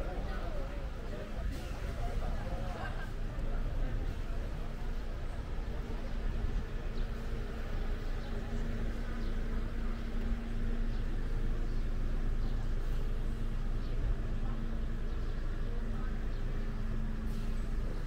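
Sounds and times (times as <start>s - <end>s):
street rumble: 0.0s - 18.0s.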